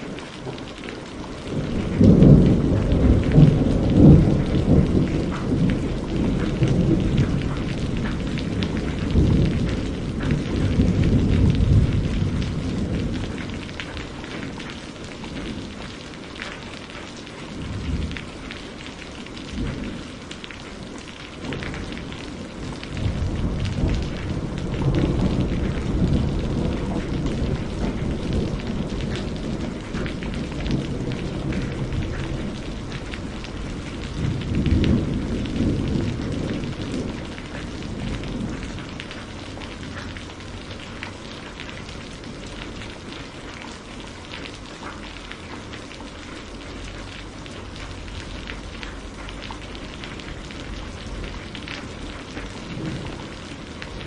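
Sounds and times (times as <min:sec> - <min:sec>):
thunder rumbling: 0:00.0 - 0:46.0, 0:46.8 - 0:54.0
rain pattering: 0:00.0 - 0:54.0.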